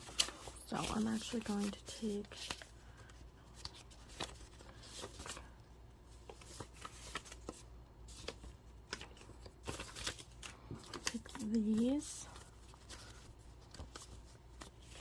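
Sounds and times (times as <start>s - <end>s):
paper rustling: 0.0s - 15.0s.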